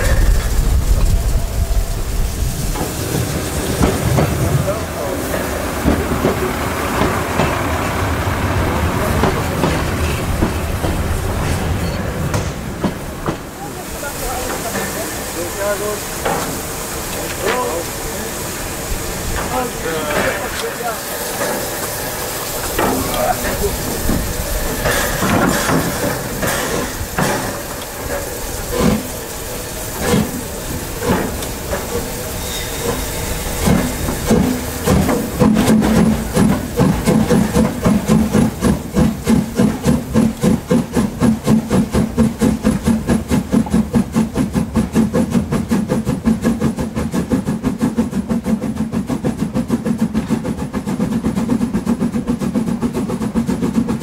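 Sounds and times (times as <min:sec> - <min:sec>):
steam hissing: 0:00.0 - 0:54.0
steam locomotive exhaust chuffs: 0:00.0 - 0:54.0.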